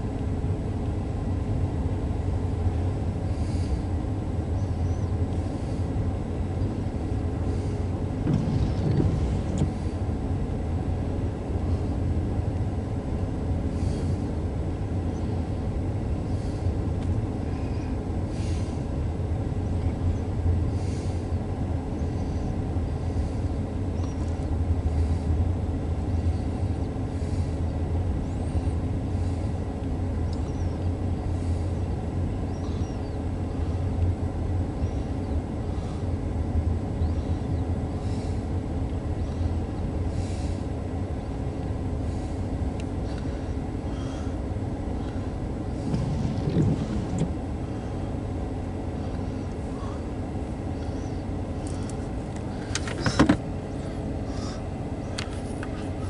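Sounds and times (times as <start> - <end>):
muffled train rumble: 0.0 - 56.0.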